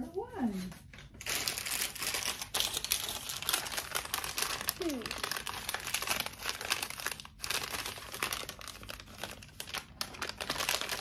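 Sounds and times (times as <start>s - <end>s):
paper bag crinkling and tearing: 1.1s - 11.0s.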